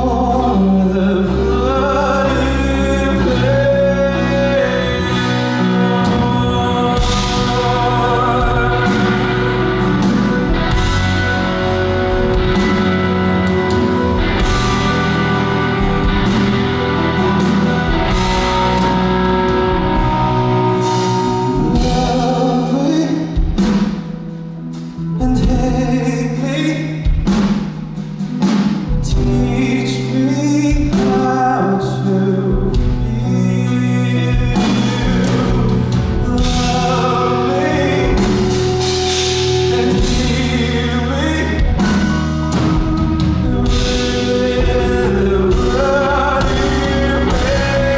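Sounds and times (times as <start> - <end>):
person singing: 0.0 - 27.6, 28.4 - 47.9
drums: 0.0 - 47.9
guitar: 0.0 - 47.9
live band playing: 0.0 - 47.9.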